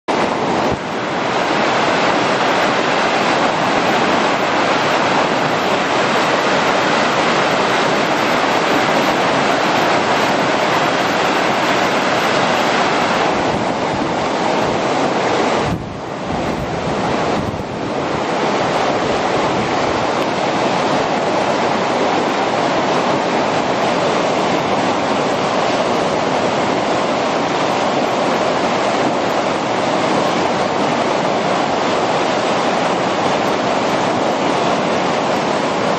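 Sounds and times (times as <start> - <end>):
whitewater rapids rushing: 0.1 - 35.9.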